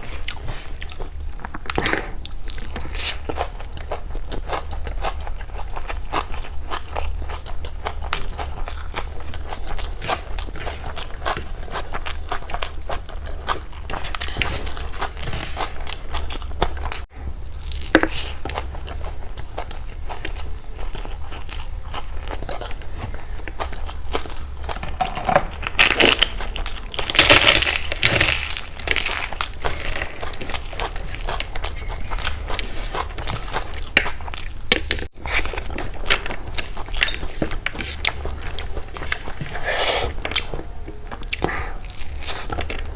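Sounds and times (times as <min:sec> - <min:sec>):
chewing and mouth clicks: 0:00.0 - 0:42.9
crunchy bites: 0:00.2 - 0:40.6.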